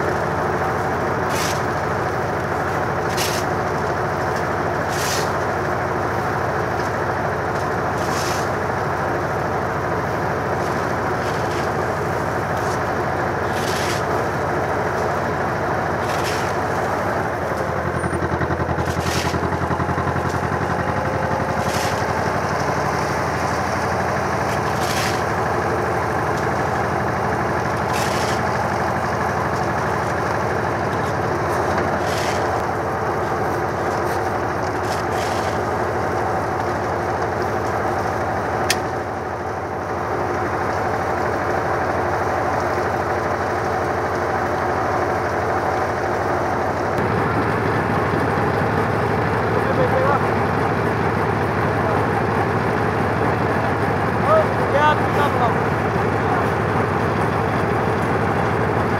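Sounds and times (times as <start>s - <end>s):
concrete mixer engine running: 0.0s - 58.9s.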